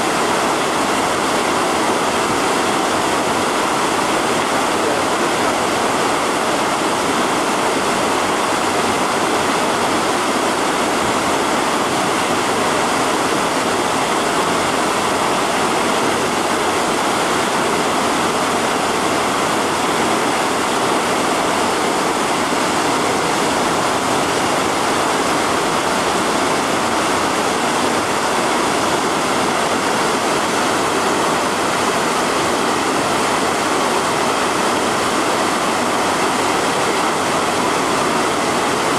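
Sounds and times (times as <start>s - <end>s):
water rushing along canal: 0.0s - 38.9s.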